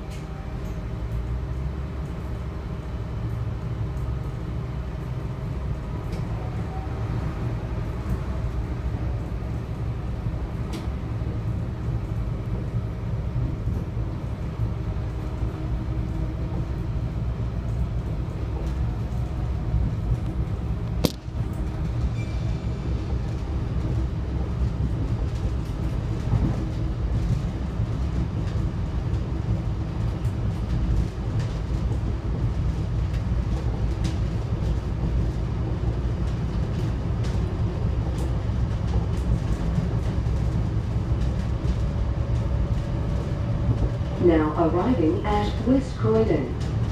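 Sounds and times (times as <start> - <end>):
train engine and wheels rumbling: 0.0 - 46.9.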